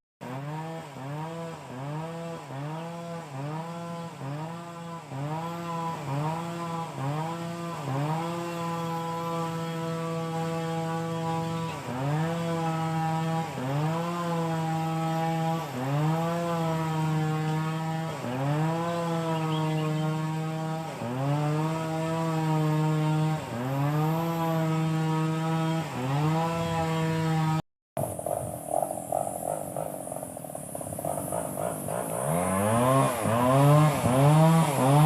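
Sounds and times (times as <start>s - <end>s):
small petrol engine running: 0.2s - 35.0s.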